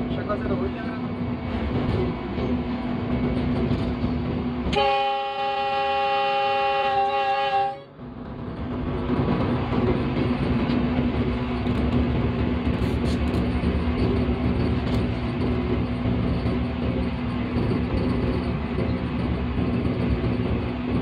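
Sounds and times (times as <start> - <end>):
locomotive engine and wheels rumbling: 0.0 - 21.0.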